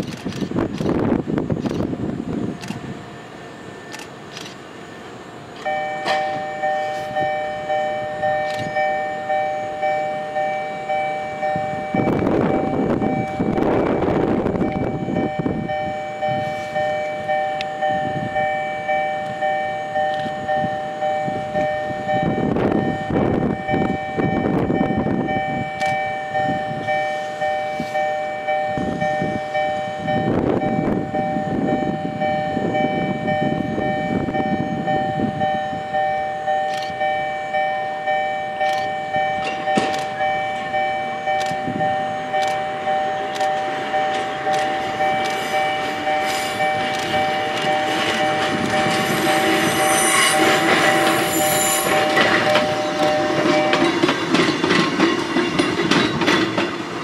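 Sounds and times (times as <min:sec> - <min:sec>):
train rumbling: 0:00.0 - 0:57.0
level-crossing alarm ringing: 0:02.4 - 0:57.0.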